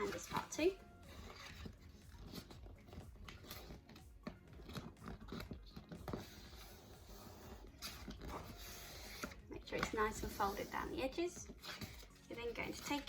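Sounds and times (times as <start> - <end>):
paper being folded and creased: 0.0 - 10.8, 11.4 - 13.0.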